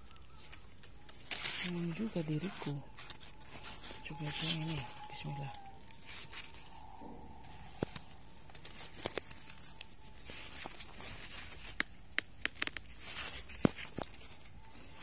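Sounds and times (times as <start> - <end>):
corn leaves rustling: 0.0 - 15.0
sharp crackles: 0.0 - 15.0.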